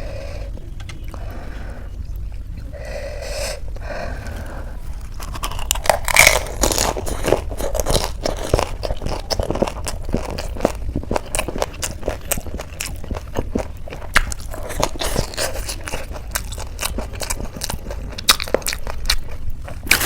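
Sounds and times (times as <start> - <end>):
chewing crisp snack food: 0.5 - 20.0.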